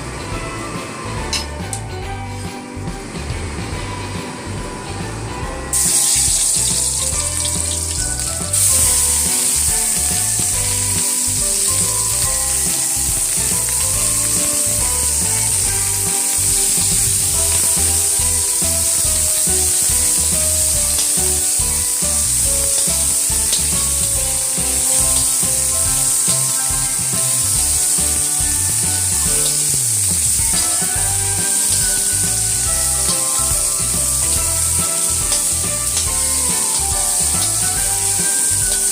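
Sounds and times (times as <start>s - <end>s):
food sizzling in hot oil: 5.7s - 38.9s.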